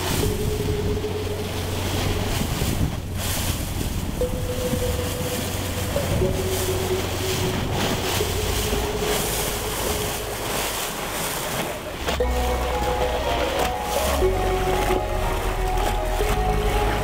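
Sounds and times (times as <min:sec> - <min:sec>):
water rushing past boat hull: 0:00.0 - 0:17.0
wind noise: 0:00.0 - 0:17.0.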